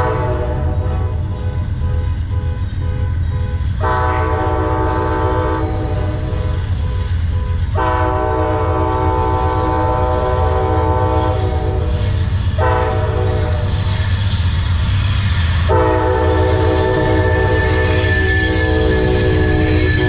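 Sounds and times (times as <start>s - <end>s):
locomotive air horn blasts: 0.0s - 3.2s, 3.8s - 14.1s, 15.6s - 20.0s
train rumbling past: 0.0s - 20.0s.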